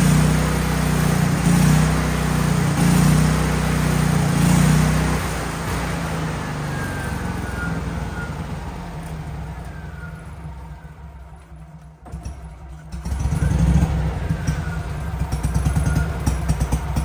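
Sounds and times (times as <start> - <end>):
welder gas engine running: 0.0 - 17.0.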